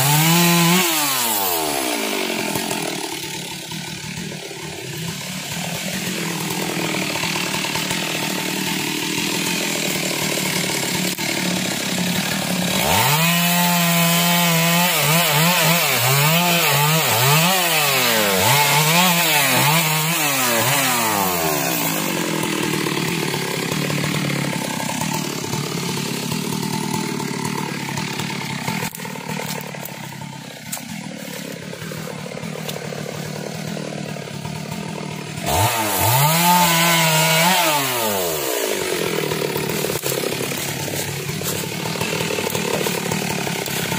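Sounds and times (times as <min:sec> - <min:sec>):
chainsaw cutting branches: 0:00.0 - 0:43.9.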